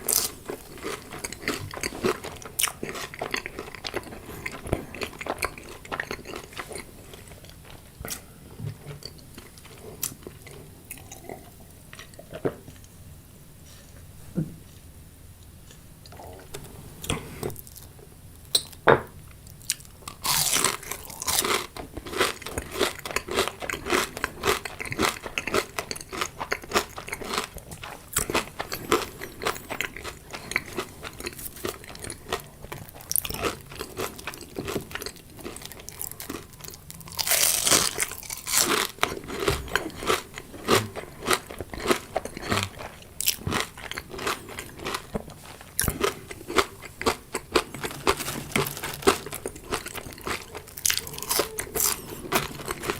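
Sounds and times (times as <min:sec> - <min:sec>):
chewing crunchy food: 0:00.0 - 0:12.9, 0:19.3 - 0:52.9.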